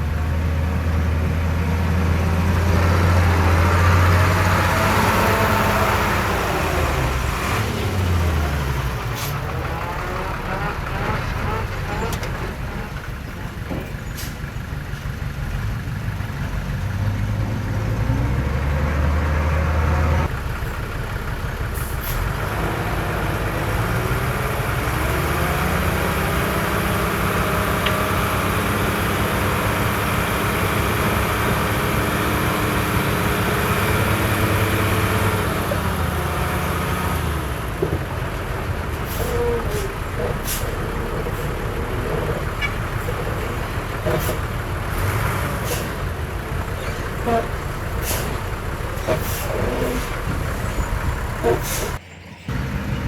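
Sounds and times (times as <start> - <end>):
heavy diesel machinery engines: 0.0 - 53.0.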